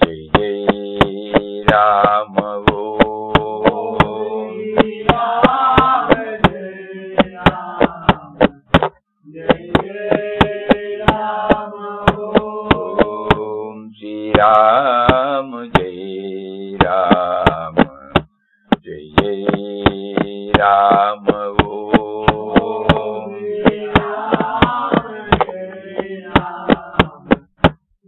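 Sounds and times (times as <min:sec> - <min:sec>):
devotional chant melody: 0:00.0 - 0:08.6, 0:09.2 - 0:27.4.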